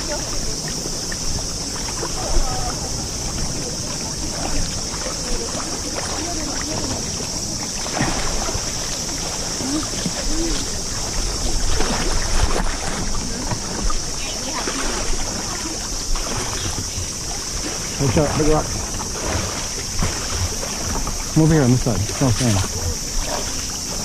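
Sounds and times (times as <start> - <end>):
river water rushing: 0.0 - 24.0
wind rumbling on microphone: 0.0 - 24.0.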